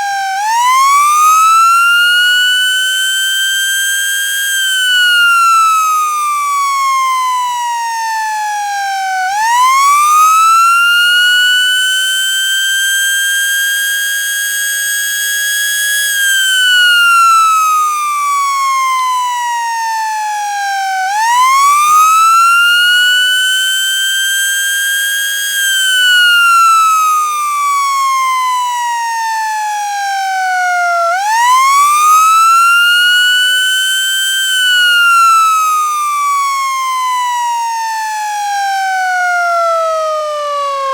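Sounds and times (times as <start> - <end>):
siren wailing: 0.0 - 40.9.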